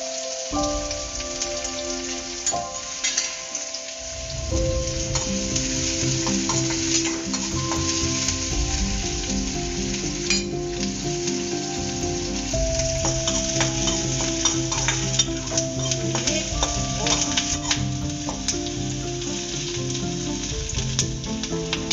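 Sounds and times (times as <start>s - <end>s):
onions sizzling in oil: 0.0s - 21.9s.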